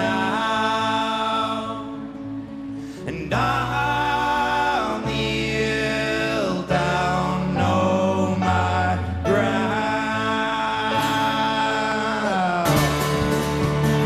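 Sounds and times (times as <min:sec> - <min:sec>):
person singing: 0:00.0 - 0:13.6
live folk-rock band: 0:00.0 - 0:14.0
upright double bass: 0:00.0 - 0:14.0.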